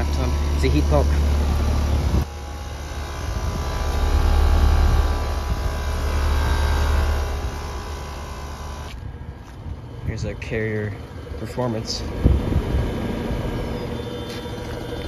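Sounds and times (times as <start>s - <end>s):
fan noise: 0.0s - 15.0s
heat pump low hum: 0.0s - 15.0s.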